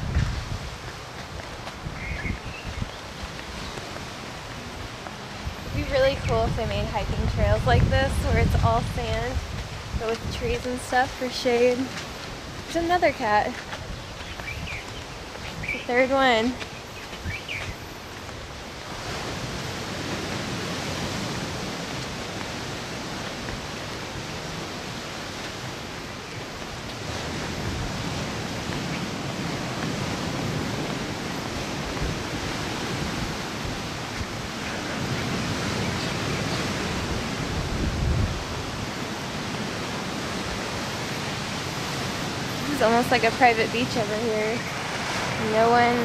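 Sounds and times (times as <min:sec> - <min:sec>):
ocean surf breaking on shore: 0:00.0 - 0:46.0
wind buffeting microphone: 0:00.0 - 0:46.0.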